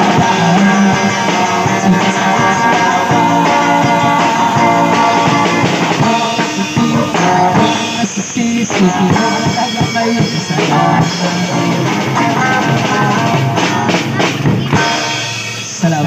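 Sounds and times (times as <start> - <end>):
electric guitar playing: 0.0 - 15.8
drum kit hits: 0.0 - 16.0.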